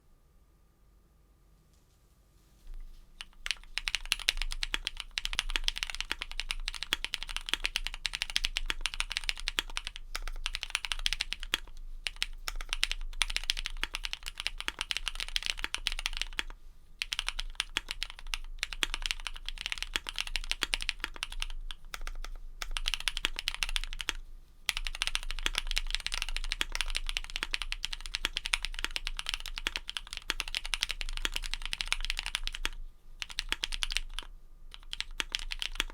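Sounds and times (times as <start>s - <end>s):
fast mechanical keyboard typing: 3.2s - 35.9s.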